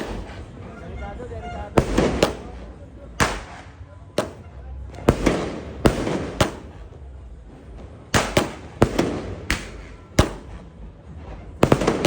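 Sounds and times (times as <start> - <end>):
fireworks bangs: 0.0 - 1.0, 1.7 - 12.0.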